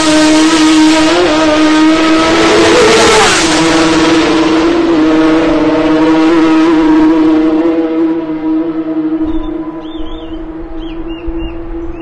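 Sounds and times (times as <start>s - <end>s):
high engine drone: 0.0s - 12.0s
racing motorcycle passing by: 0.0s - 12.0s.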